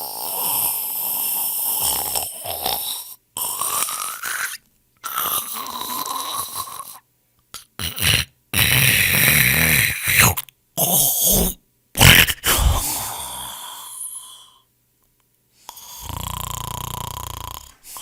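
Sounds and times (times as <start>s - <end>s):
people snoring: 0.0s - 4.5s, 5.1s - 7.0s, 7.8s - 14.0s, 15.7s - 18.0s.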